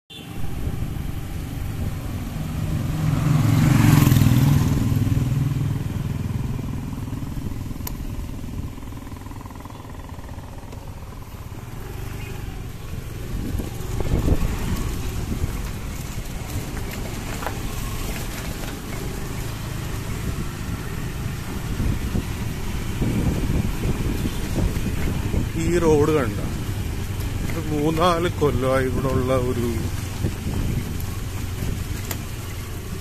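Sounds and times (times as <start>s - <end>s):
scooter engine running: 0.2s - 33.0s.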